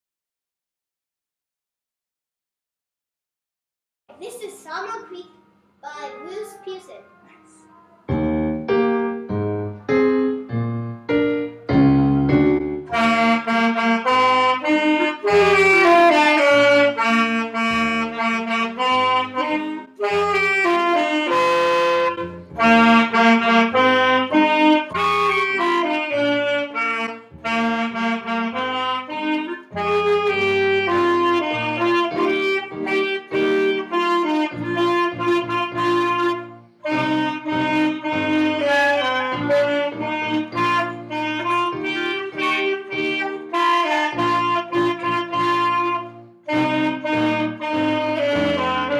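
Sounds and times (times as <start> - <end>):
clarinet: 6.1 - 48.9
saxophone: 7.1 - 11.6, 12.2 - 48.9.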